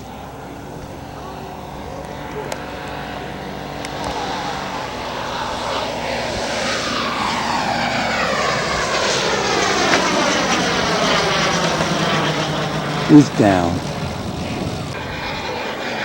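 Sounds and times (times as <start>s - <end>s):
model airplane engine: 0.0s - 13.2s.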